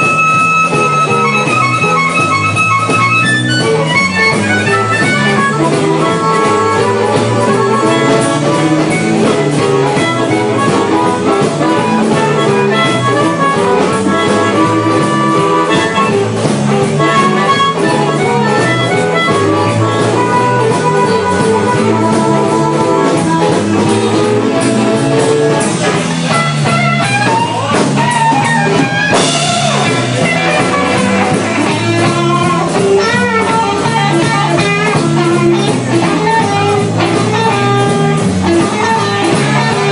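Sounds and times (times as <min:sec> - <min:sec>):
blues band playing: 0:00.0 - 0:39.9
electric guitar lines: 0:00.0 - 0:39.9.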